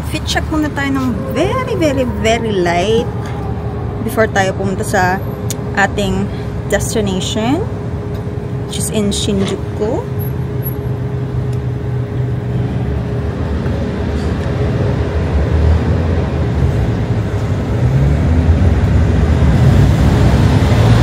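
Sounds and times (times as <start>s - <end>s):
motor vehicle engine rumble: 0.0s - 21.0s.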